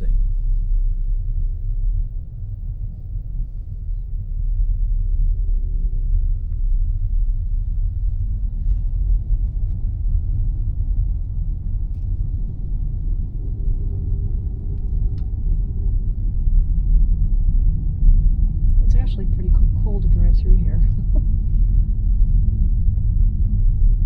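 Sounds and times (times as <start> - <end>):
car driving interior rumble: 0.0 - 24.0
faint hum: 0.0 - 24.0.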